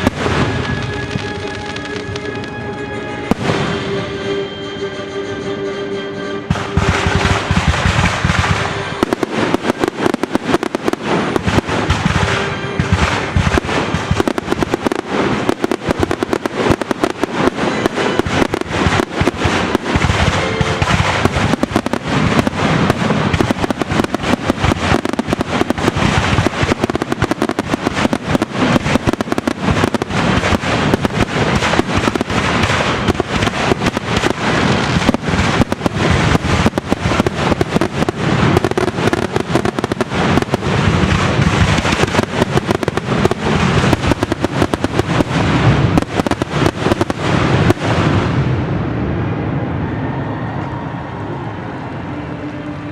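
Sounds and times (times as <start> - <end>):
fireworks bangs and crackles: 0.0 - 4.1, 6.5 - 49.7
orchestral music: 0.0 - 52.9.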